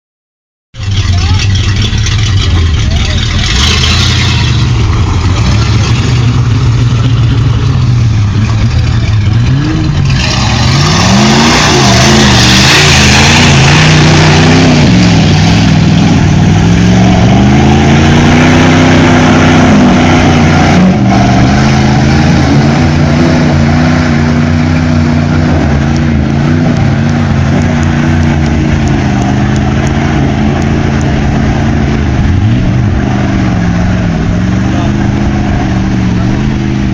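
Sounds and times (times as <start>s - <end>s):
truck engine revving: 0.8s - 36.9s.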